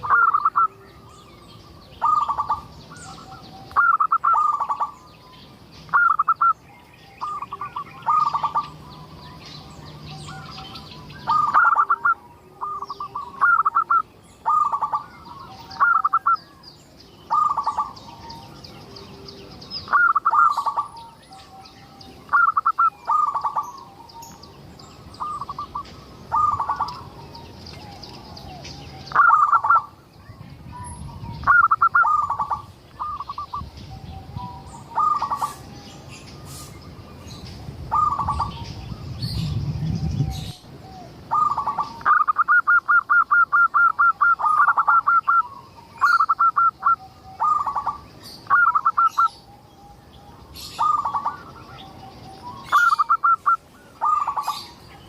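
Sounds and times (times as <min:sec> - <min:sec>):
dove cooing: 0:00.0 - 0:01.2, 0:01.9 - 0:05.1, 0:05.9 - 0:06.6, 0:07.2 - 0:16.5, 0:17.3 - 0:24.4, 0:25.0 - 0:30.0, 0:30.7 - 0:36.8, 0:37.9 - 0:54.8.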